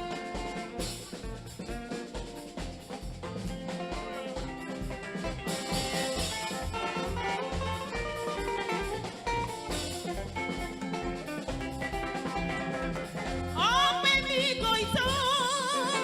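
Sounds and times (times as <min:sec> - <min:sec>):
guitar: 0:00.0 - 0:16.0
keyboard: 0:00.0 - 0:16.0
steady drum beat: 0:00.0 - 0:16.0.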